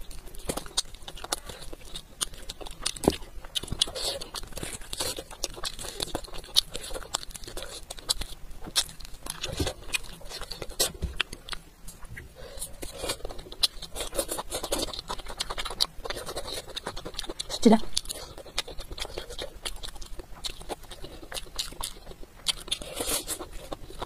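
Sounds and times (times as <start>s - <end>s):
person chewing meat: 0.0s - 24.0s.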